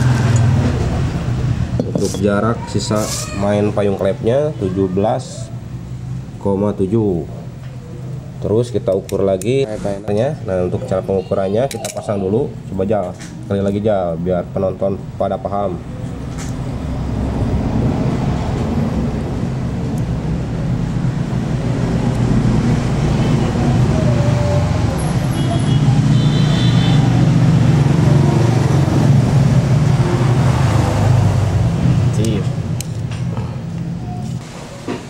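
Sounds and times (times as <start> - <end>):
low rumble of road traffic: 0.0 - 35.0.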